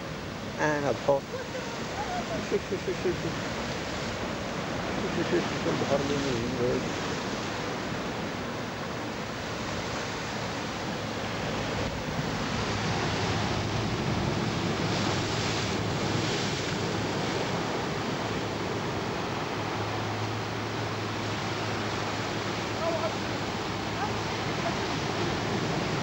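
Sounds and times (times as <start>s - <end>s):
sea waves washing: 0.0s - 26.0s.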